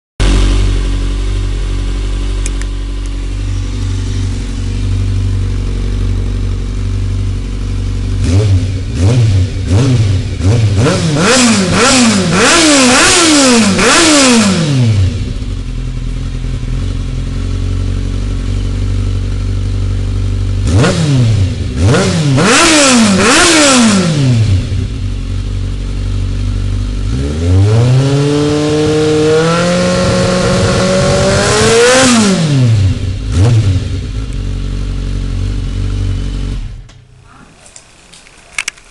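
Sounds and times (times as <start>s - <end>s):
engine revving and idling: 0.2s - 37.4s.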